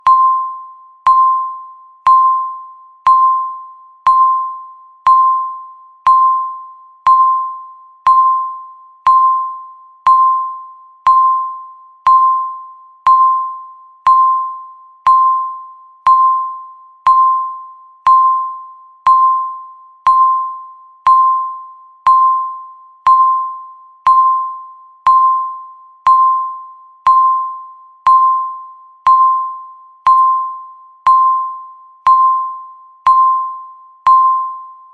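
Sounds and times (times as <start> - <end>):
electronic timer beeps: 0.0 - 34.9.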